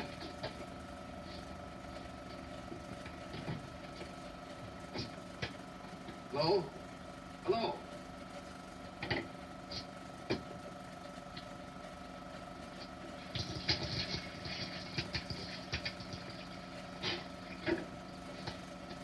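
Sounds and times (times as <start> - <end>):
film projector motor hum: 0.0 - 19.0.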